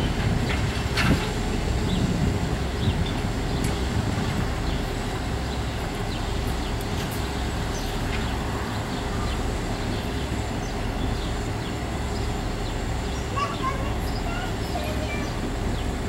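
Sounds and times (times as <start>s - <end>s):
electric train rumbling past: 0.0s - 16.0s
birds chirping: 1.5s - 16.0s.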